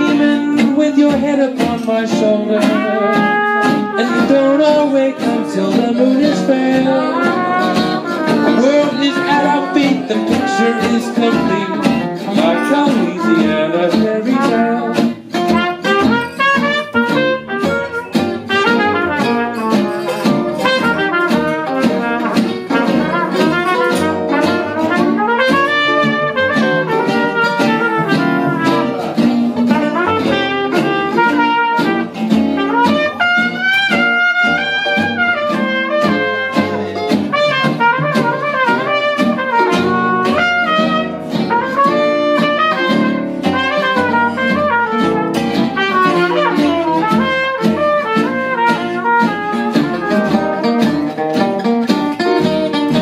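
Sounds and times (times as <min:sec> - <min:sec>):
plucked double bass: 0:00.0 - 0:53.0
strummed acoustic guitars: 0:00.0 - 0:53.0
trumpet melody: 0:00.0 - 0:53.0.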